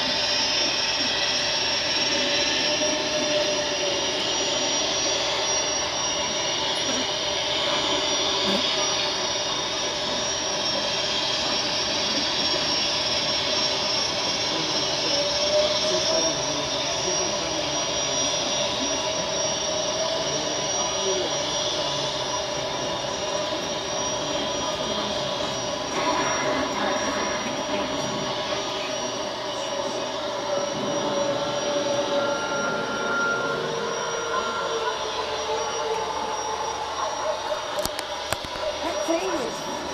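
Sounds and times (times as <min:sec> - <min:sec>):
thin steady whine: 0:00.0 - 0:39.9.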